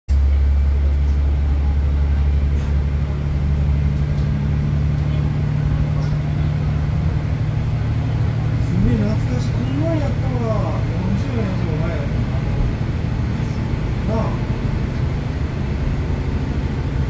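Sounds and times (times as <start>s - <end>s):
diesel train engine drone: 0.1s - 17.0s.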